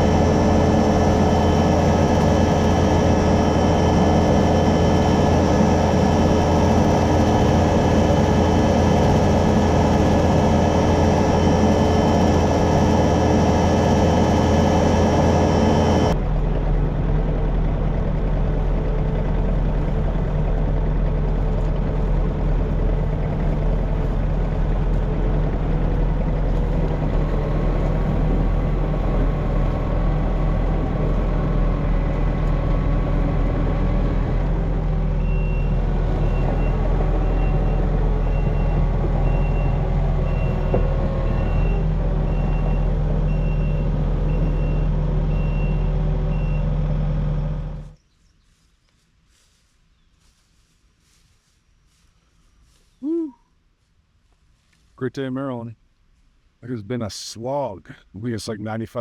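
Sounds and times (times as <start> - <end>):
diesel engine running: 0.0 - 48.0
hydraulic brush cutter running: 0.0 - 48.0.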